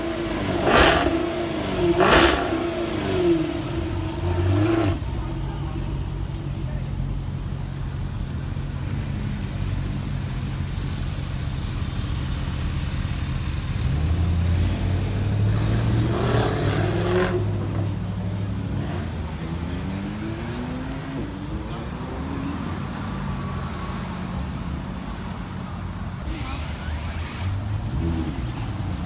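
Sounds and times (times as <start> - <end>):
car engine rumbling: 0.0 - 29.0.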